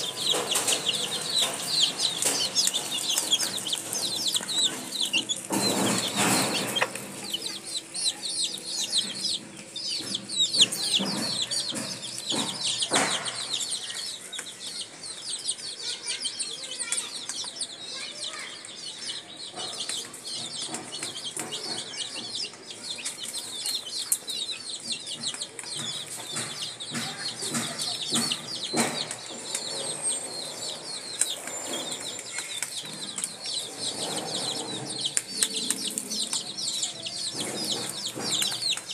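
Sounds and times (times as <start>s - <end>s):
sharp knocks: 0.0s - 14.2s, 19.6s - 38.9s
chicks peeping: 0.0s - 38.9s.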